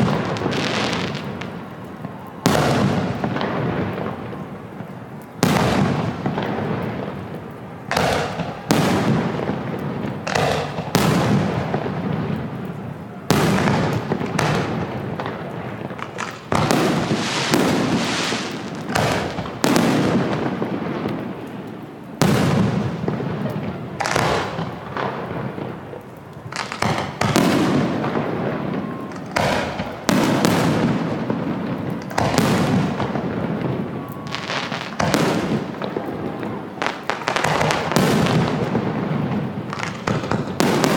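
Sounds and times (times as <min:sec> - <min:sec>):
fireworks booming: 0:00.0 - 0:40.9.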